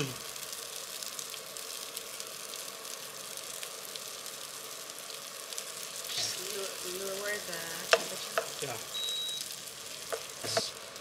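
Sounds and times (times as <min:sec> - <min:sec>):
faint crackles: 0:00.0 - 0:11.0
rice sizzling in oil: 0:00.0 - 0:11.0.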